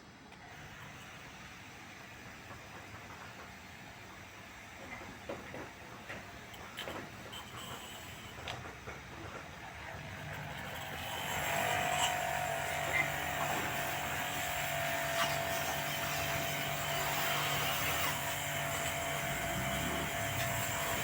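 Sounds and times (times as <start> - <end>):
motor-driven machine running: 0.4 - 21.0.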